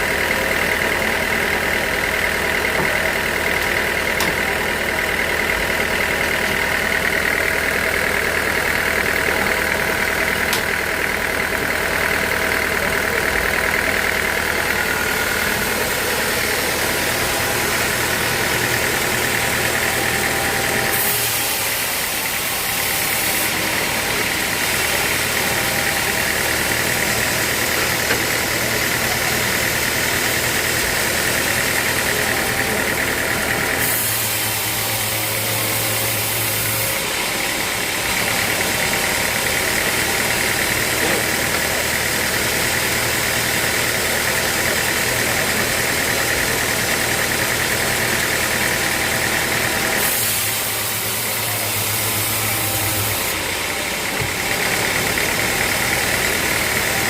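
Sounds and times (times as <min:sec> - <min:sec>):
high machine whine: 0:00.0 - 0:57.0
sawmill machinery drone: 0:00.0 - 0:57.0.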